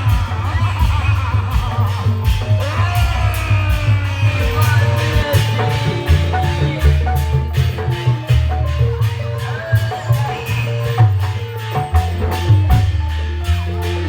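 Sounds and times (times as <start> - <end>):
heavy bass: 0.0 - 14.0
sliding melody: 0.0 - 14.0
steady drum beat: 0.0 - 14.0.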